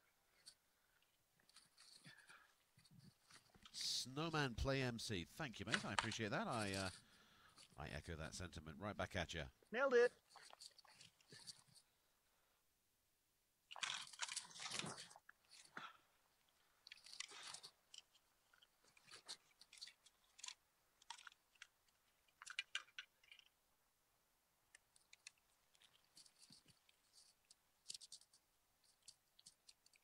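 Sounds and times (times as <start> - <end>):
faint crunching and clicking: 0.0 - 12.5, 13.6 - 24.0, 24.6 - 30.0.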